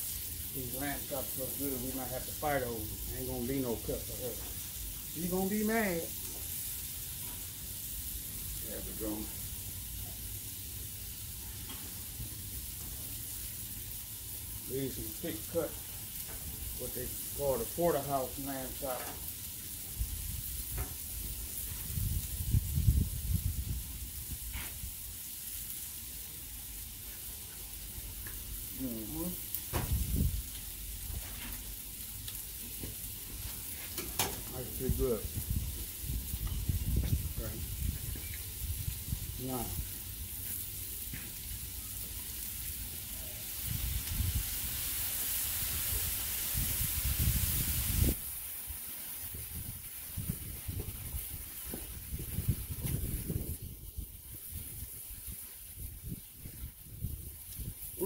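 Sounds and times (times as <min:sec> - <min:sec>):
liquid hissing on hot steel: 0:00.0 - 0:58.0
meat sizzling on a griddle: 0:00.0 - 0:58.0.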